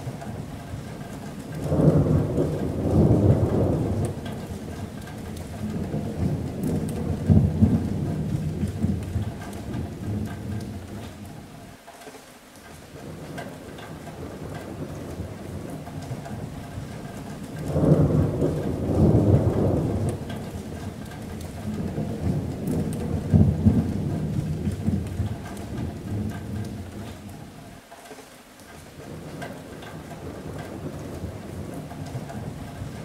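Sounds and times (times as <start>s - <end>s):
rolling thunder: 0.0s - 11.4s, 13.0s - 27.6s, 29.0s - 33.0s
rain on a metal roof: 0.0s - 33.0s.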